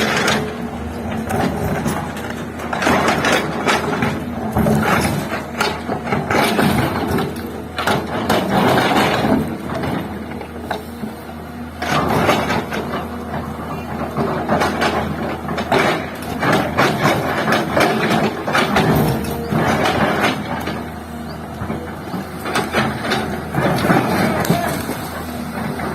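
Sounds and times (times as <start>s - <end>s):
metal clanking and knocking: 0.0s - 10.9s, 11.7s - 25.9s
diesel engine running: 0.0s - 25.9s.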